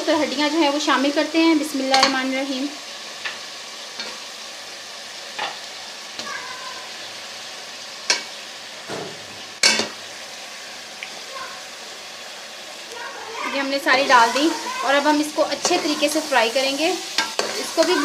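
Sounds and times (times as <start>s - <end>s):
frying sizzle in a pot: 0.0s - 18.0s.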